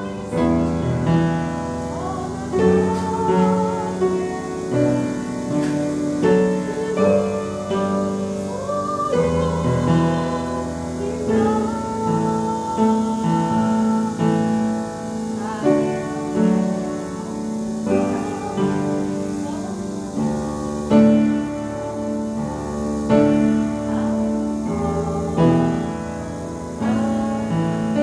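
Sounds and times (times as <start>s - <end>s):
piano with slow held chords: 0.0s - 28.0s.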